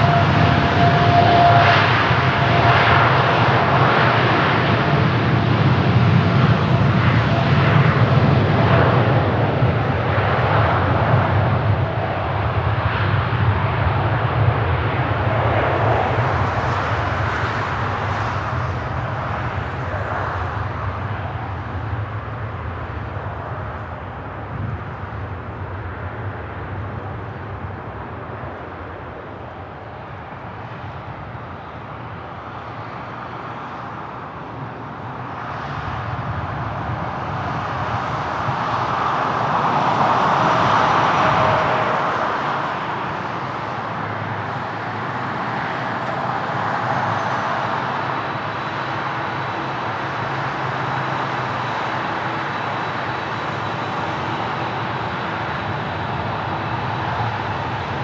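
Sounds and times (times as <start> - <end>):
jet airliner engines passing: 0.0 - 58.0.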